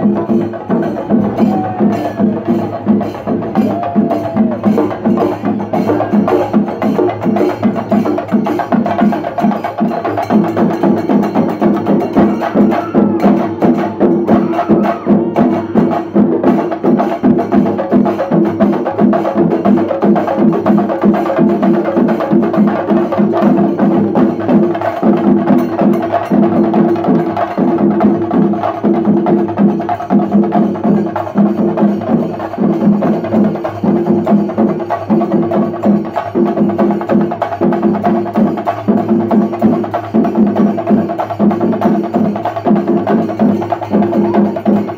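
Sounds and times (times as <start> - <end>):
drums beaten with sticks: 0.0 - 44.9.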